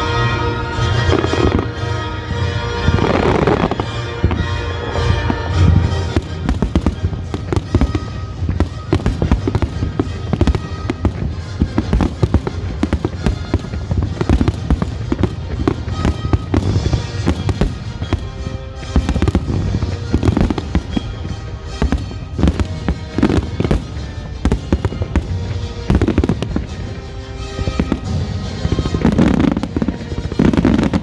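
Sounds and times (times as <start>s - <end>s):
fireworks booms and bangs: 0.0s - 31.0s
fireworks crackling: 0.0s - 31.0s
music playing: 0.0s - 31.0s.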